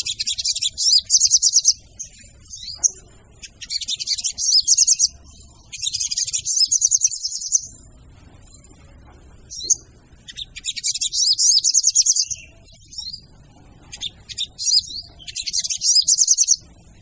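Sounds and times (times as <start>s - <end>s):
bird chattering trills: 0.0s - 17.0s.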